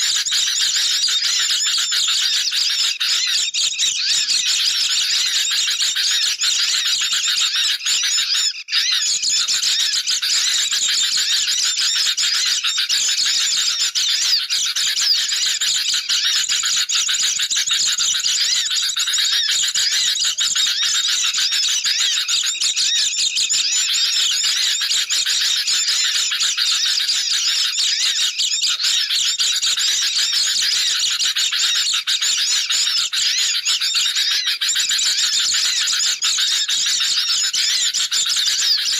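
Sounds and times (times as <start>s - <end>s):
many birds chattering: 0.0s - 38.9s.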